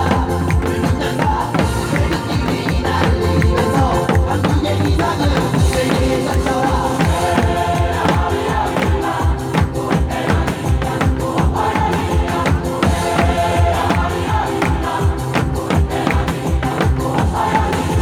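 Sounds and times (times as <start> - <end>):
cheer song singing: 0.0 - 18.0.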